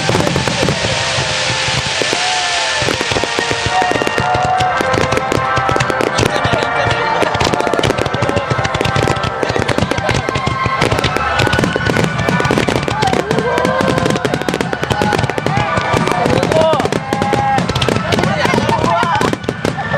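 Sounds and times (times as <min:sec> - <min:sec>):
fireworks bangs and crackling: 0:00.0 - 0:19.9.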